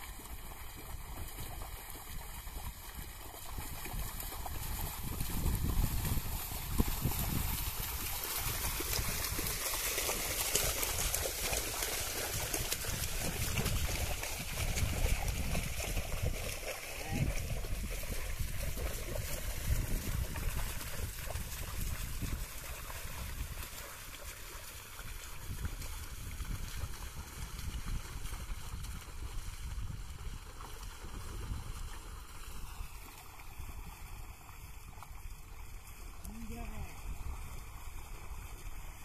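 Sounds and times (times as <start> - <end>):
muddy water sloshing and splashing: 0.0 - 39.0.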